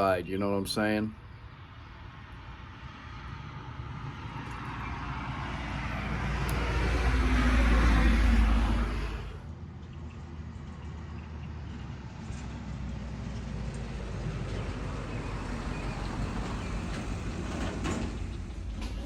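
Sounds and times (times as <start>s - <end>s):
vehicle passing on road: 1.2s - 19.0s.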